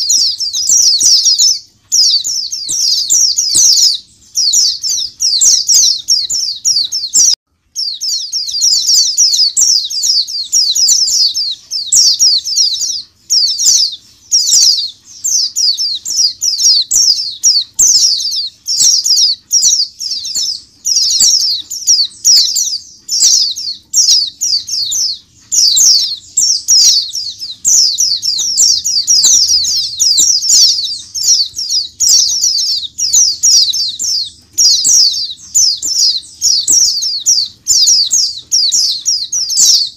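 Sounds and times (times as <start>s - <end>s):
birds twittering chirps: 0.0s - 39.9s.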